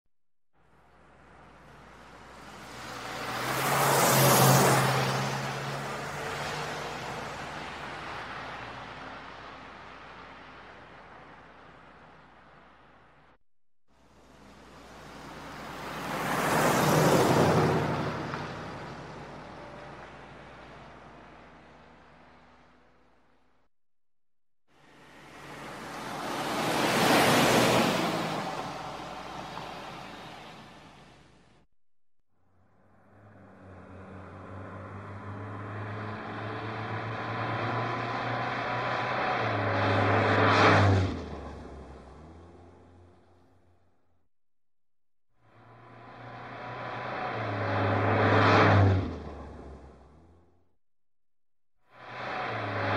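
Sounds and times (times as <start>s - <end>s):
car passing by: 1.0s - 12.3s, 14.1s - 22.8s, 24.8s - 31.4s, 32.8s - 43.6s, 45.5s - 50.5s, 52.0s - 52.9s.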